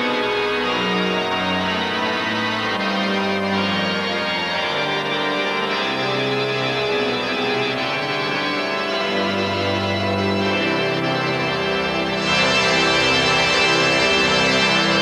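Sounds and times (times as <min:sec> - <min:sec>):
organ sustained chords: 0:00.0 - 0:15.0.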